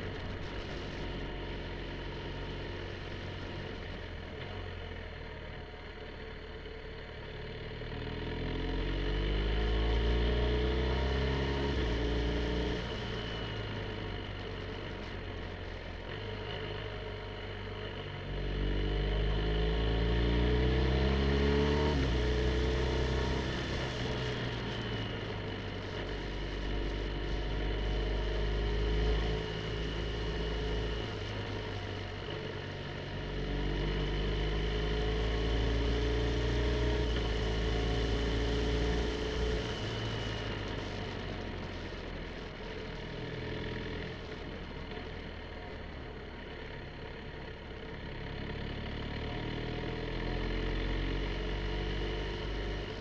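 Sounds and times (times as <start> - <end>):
wind and road noise: 0.0 - 5.2, 8.1 - 53.0
motorcycle engine accelerating: 0.0 - 53.0.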